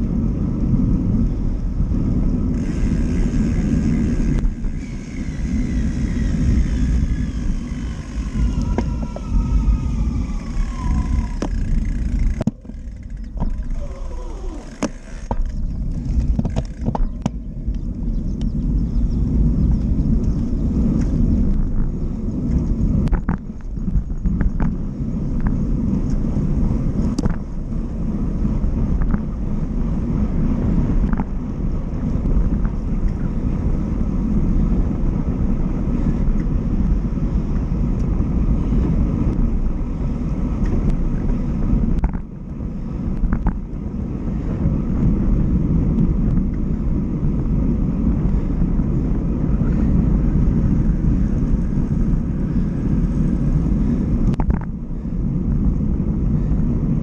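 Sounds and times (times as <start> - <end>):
tyre and road rumble: 0.0 - 57.0
wind on microphone: 0.0 - 57.0.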